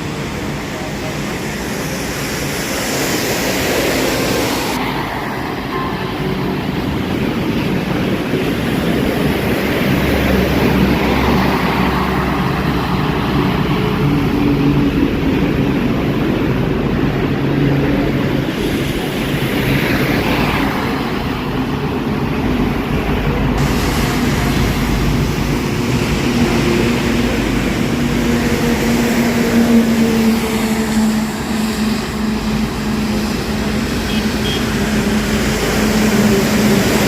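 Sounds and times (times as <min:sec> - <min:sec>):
heavier engine rumble: 0:00.0 - 0:37.0
hiss of rain: 0:00.0 - 0:37.0
tyres on wet road: 0:00.0 - 0:37.0
vehicle engines running: 0:00.0 - 0:37.0.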